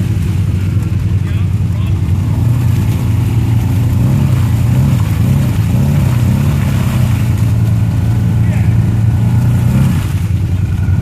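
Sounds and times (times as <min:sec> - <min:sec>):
engine revving unevenly: 0:00.0 - 0:11.0
vehicle churning through mud: 0:00.0 - 0:11.0.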